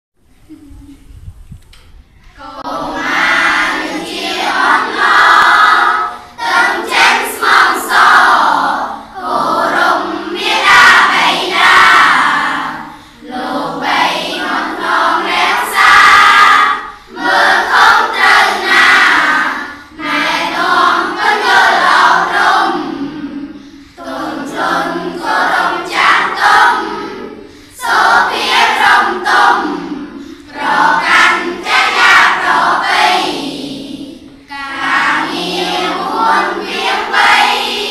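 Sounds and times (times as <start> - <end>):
children chanting in unison: 2.3 - 37.9.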